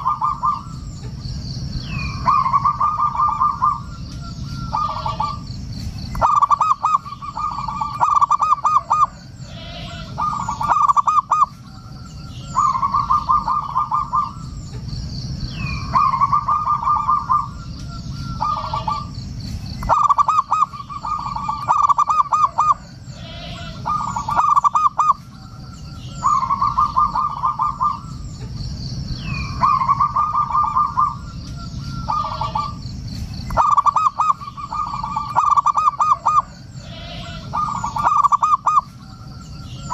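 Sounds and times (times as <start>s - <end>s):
dove cooing in rolling phrases: 0.0s - 14.8s, 15.5s - 39.9s.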